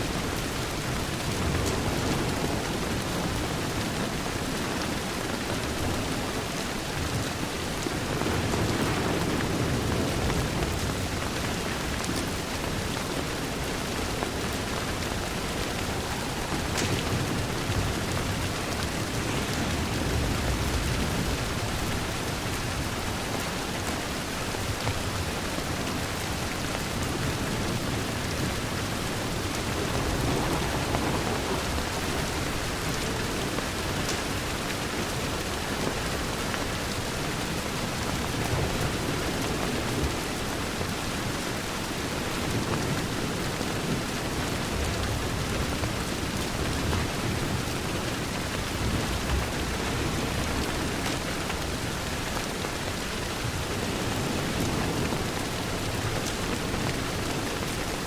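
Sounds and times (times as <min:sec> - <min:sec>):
rain on a window: 0:00.0 - 0:58.0.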